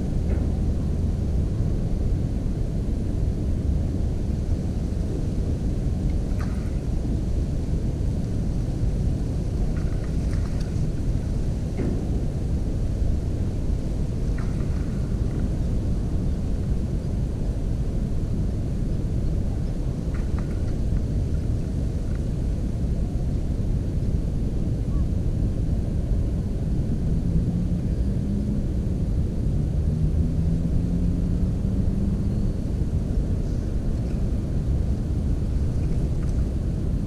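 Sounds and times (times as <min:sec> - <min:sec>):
distant engine drone: 0:00.0 - 0:37.0
steady low rumble: 0:00.0 - 0:37.0.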